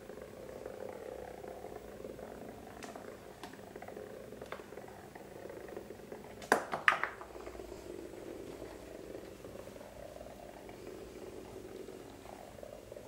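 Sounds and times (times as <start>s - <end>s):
toy bug buzzing on wooden floor: 0.0s - 13.0s.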